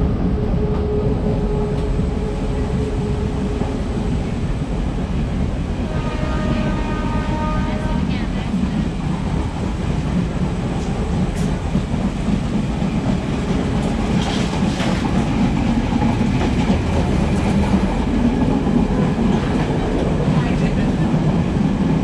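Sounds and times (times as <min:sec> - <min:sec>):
train rumble inside coach: 0:00.0 - 0:22.0.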